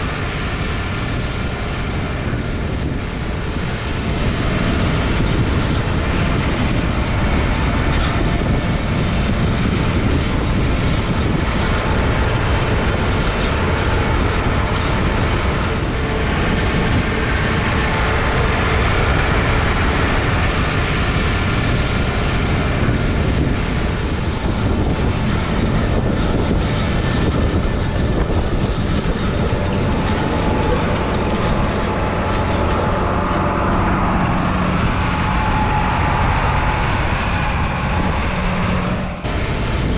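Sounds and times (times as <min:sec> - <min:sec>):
heavy machinery rumbling: 0:00.0 - 0:39.9.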